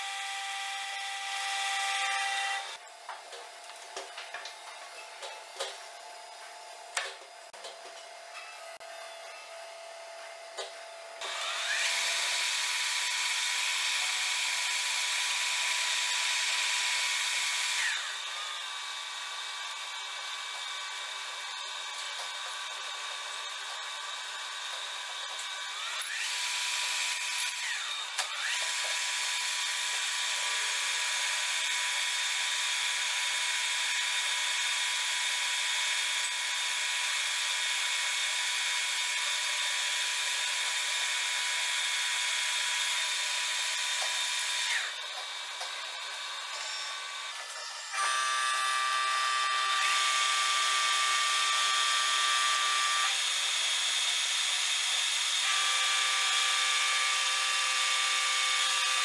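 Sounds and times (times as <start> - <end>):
drill boring into metal: 0.0 - 2.8, 11.2 - 59.0.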